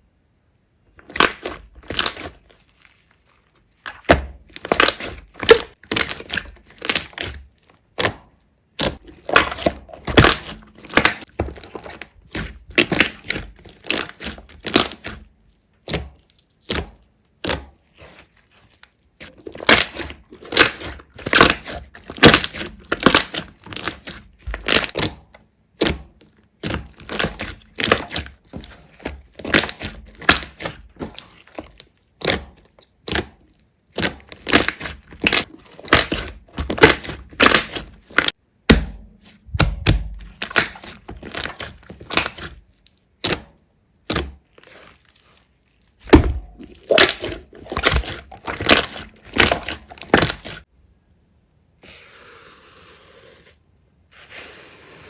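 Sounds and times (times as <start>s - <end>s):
slime crackling and popping: 1.0s - 50.7s.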